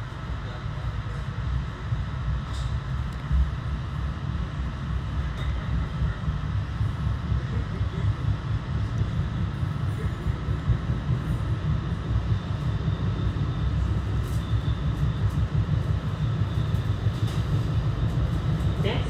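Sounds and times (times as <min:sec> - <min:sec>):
rail coach rumbling on track: 0:00.0 - 0:19.0.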